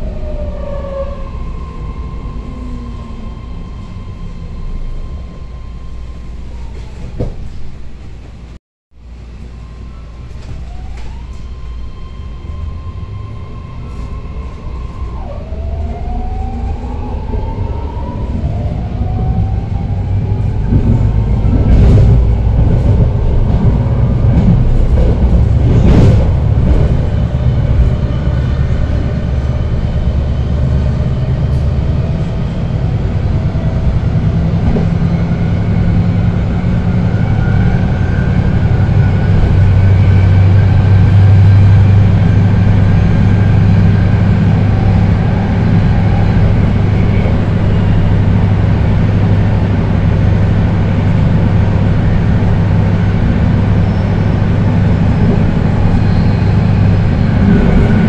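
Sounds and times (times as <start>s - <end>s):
wheel and rail rumble: 0.0s - 58.0s.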